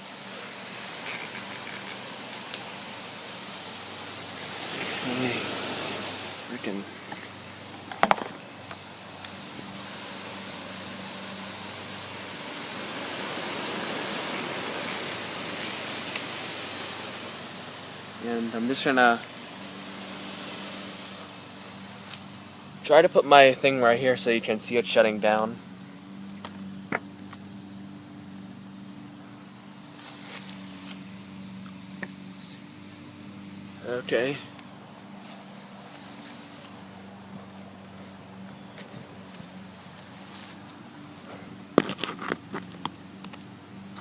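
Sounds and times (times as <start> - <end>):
sprinkler spraying water: 0.0 - 44.0
steady low hum: 0.0 - 44.0.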